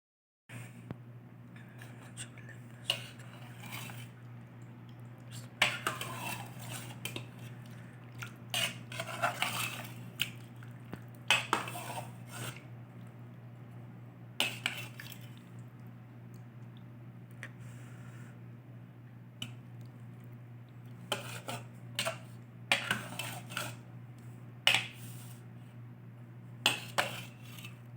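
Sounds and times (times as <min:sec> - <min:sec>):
steady low hum: 0:00.5 - 0:27.9.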